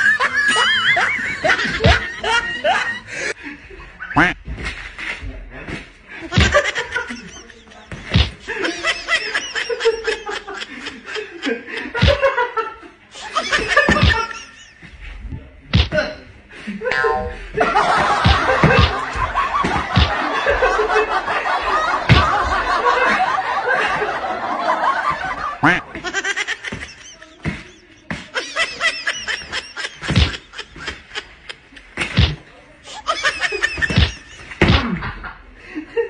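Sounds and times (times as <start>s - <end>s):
group of people laughing: 0.0s - 4.3s, 6.1s - 15.1s, 16.5s - 36.0s.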